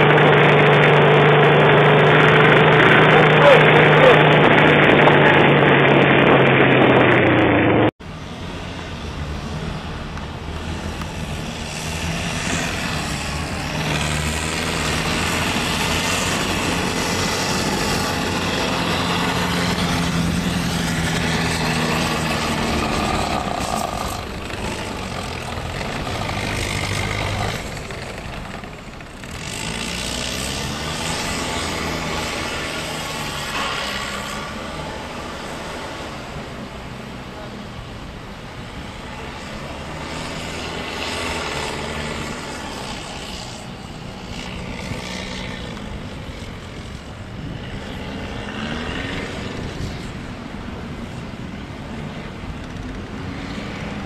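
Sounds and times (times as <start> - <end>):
snow vehicle engine running: 0.0 - 54.0.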